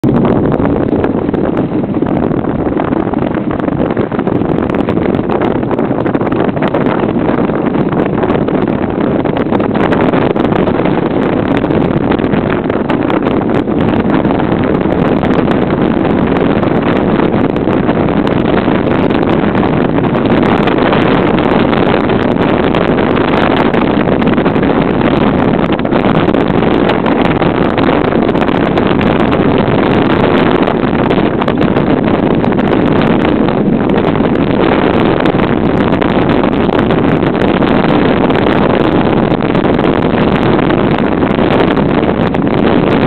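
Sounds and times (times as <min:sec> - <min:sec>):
bobsleigh runners rumbling on ice: 0:00.0 - 0:43.0
wind on microphone: 0:00.0 - 0:43.0.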